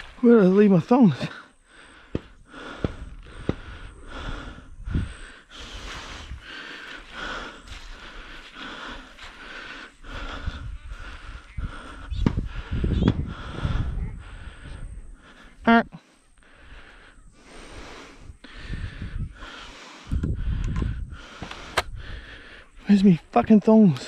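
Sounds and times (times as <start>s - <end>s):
man breathing heavily: 0.0s - 23.2s.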